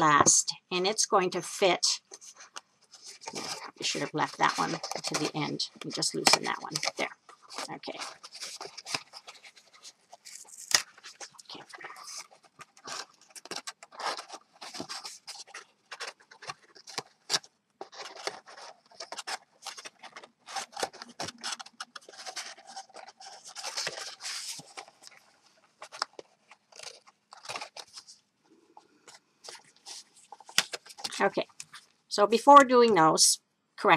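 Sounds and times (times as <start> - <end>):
stiff cardstock crackling and folding: 1.3 - 32.8.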